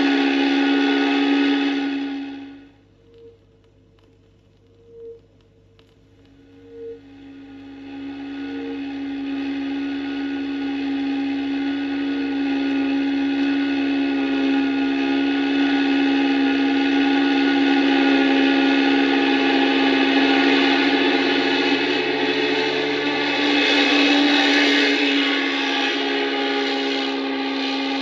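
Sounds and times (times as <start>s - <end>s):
whirring motor drone: 0.0s - 2.8s, 6.3s - 28.0s.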